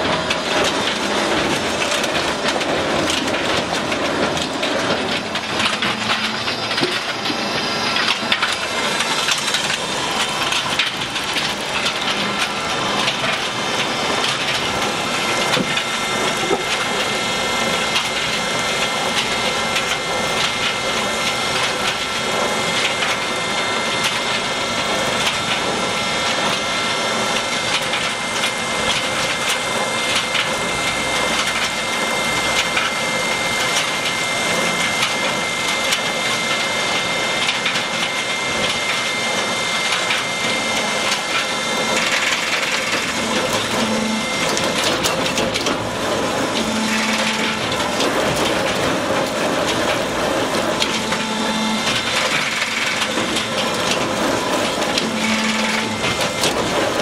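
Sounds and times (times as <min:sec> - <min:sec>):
faint high machinery whine: 0:00.0 - 0:57.0.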